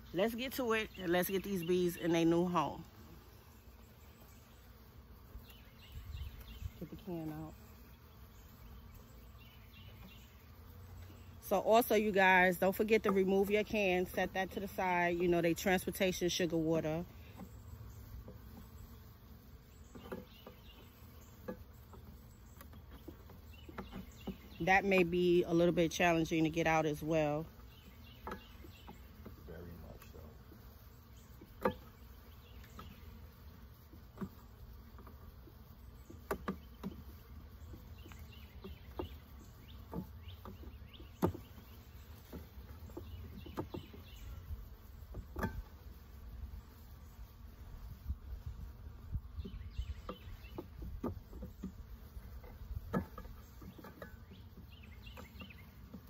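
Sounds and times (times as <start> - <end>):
faint buzzing of bees: 0.0 - 56.0.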